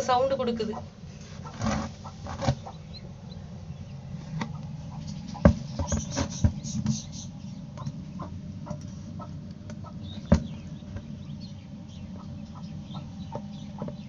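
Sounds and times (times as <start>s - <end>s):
chick peeping inside egg: 0.6s - 14.0s.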